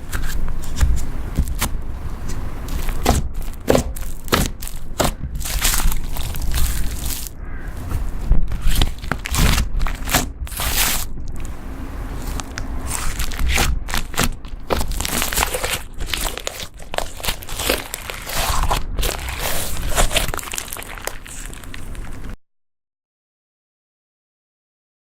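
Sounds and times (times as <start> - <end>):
slime squished by hand: 0.1 - 11.5, 12.2 - 22.4.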